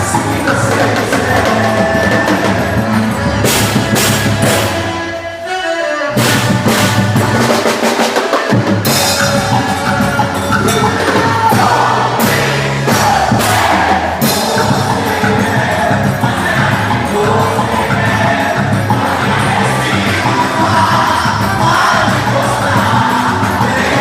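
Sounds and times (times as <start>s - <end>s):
band music with drum beat: 0.0s - 5.2s, 6.1s - 24.0s.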